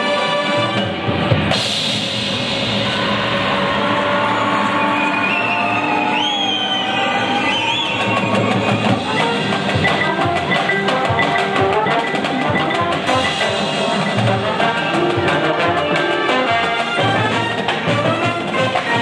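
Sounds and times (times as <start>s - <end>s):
drums and mallet percussion: 0.0s - 4.1s, 7.8s - 19.0s.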